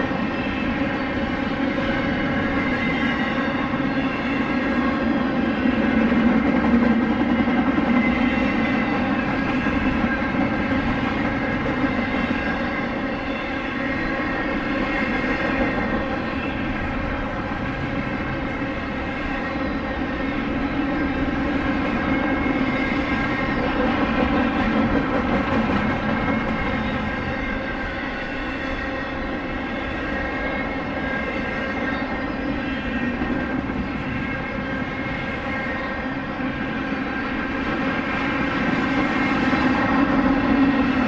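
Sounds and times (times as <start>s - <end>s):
freight train droning: 0.0s - 41.0s.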